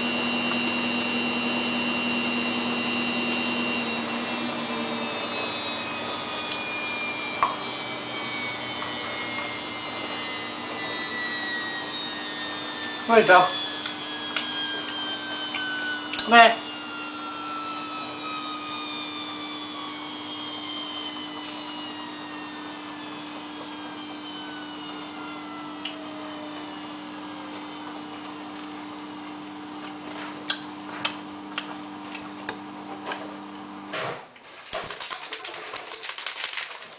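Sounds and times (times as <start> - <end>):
washing machine motor whine: 0.0 - 34.2.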